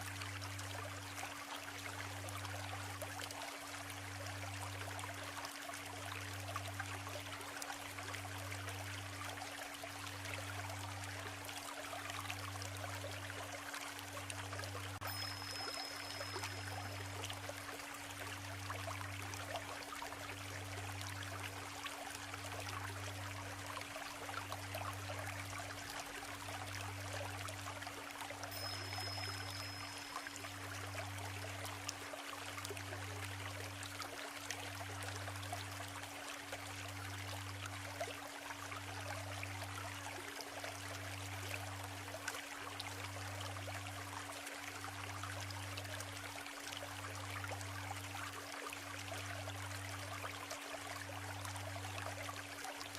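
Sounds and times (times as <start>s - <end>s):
stream running over stones: 0.0s - 52.9s.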